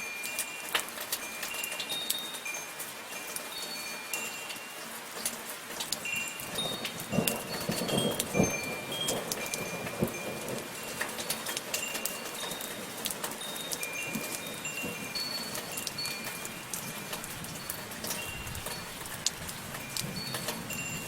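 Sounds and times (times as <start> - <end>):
metal wind chimes ringing: 0.0 - 21.0
soft rain pattering: 0.0 - 21.0.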